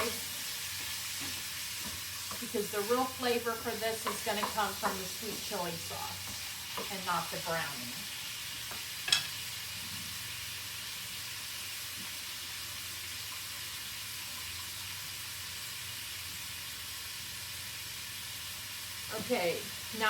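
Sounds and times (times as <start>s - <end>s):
chicken sizzling in a skillet: 0.0s - 20.0s.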